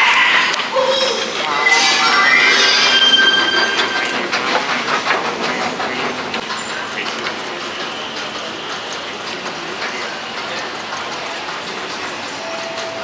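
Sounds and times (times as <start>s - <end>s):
metro train wheels clattering: 0.0s - 13.0s.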